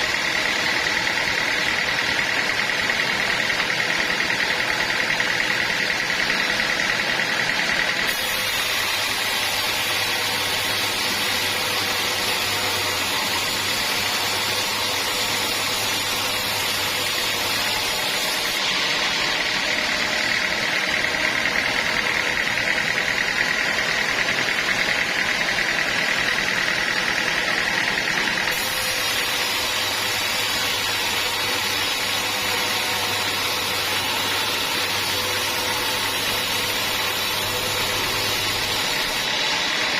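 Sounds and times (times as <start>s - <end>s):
sawmill machinery drone with whine: 0.0s - 39.9s.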